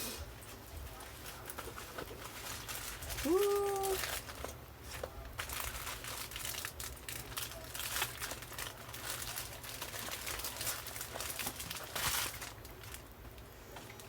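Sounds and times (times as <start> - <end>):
plastic packaging crinkling: 1.0 - 13.1.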